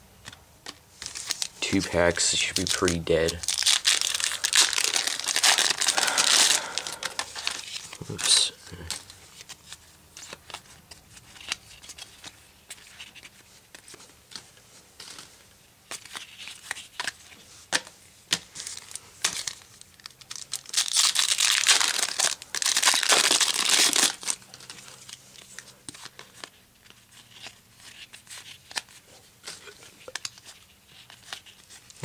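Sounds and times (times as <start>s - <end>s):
trading cards flipping: 0.2s - 32.0s
foil wrapper crinkling and tearing: 1.0s - 13.9s, 18.5s - 32.0s.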